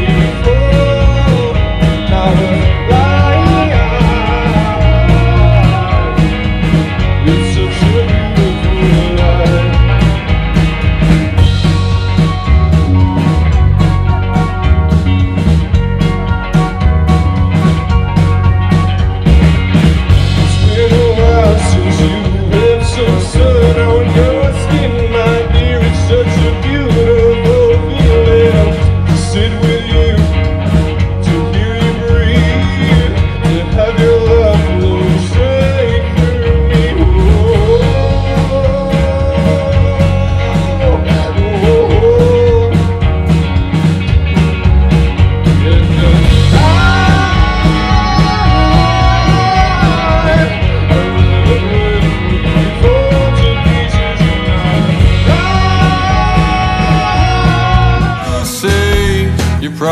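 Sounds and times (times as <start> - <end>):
lead singer singing: 0.0 - 10.5, 20.2 - 43.2, 45.4 - 59.9
bass guitar: 0.0 - 59.9
electric guitars: 0.0 - 59.9
steady drum beat: 0.0 - 59.9.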